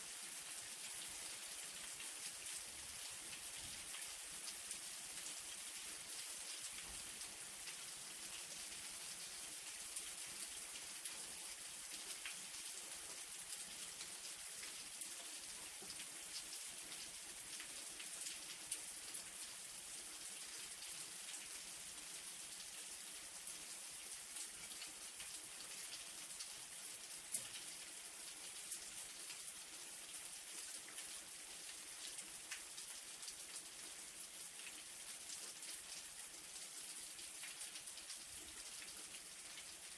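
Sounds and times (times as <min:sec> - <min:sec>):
light rain hiss: 0:00.0 - 0:39.9
raindrops ticking on a surface: 0:00.1 - 0:39.9.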